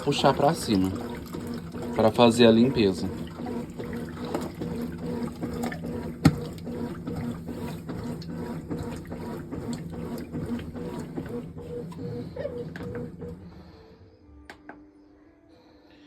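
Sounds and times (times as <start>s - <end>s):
water filling washing machine: 0.0s - 13.8s.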